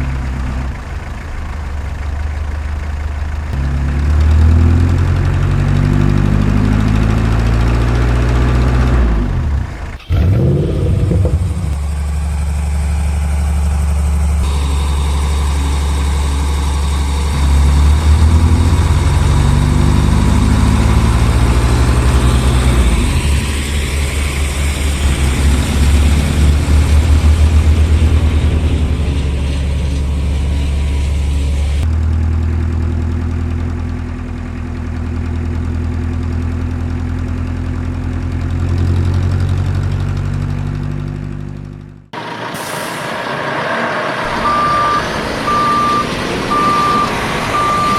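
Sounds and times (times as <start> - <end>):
construction machinery engine rumble: 0.0 - 47.9.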